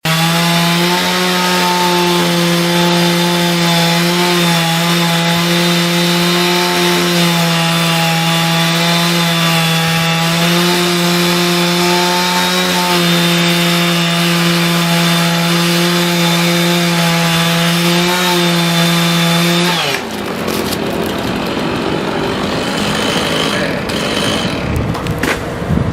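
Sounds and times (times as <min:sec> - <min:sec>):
chainsaw engine cutting: 0:00.0 - 0:25.1.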